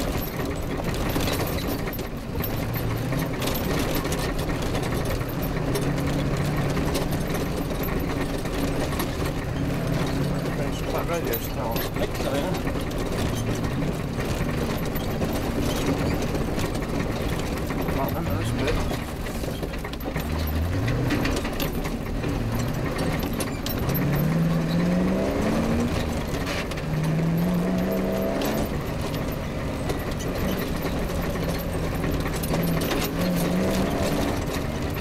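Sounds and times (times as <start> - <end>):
knocks and rattles: 0.0 - 35.0
rally car engine revving: 0.0 - 35.0.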